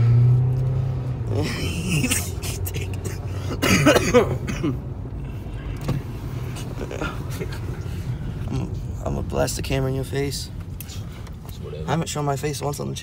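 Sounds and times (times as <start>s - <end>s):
car interior engine hum: 0.0s - 13.0s.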